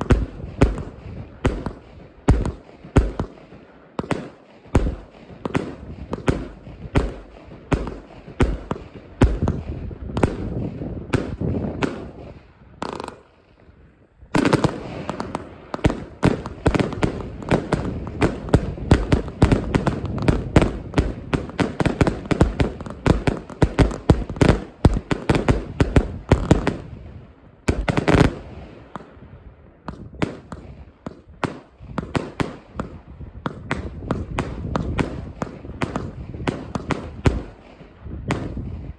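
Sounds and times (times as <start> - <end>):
fireworks bursting cracks: 0.0 - 13.4, 14.4 - 27.0, 27.7 - 29.2, 29.8 - 38.9.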